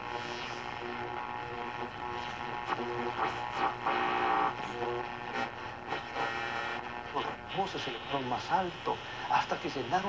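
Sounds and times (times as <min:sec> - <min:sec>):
radio hum and whine with static: 0:00.0 - 0:10.0.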